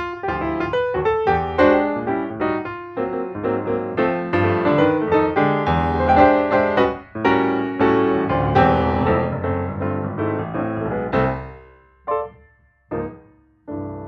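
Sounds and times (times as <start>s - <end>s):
piano piece: 0.0s - 14.0s.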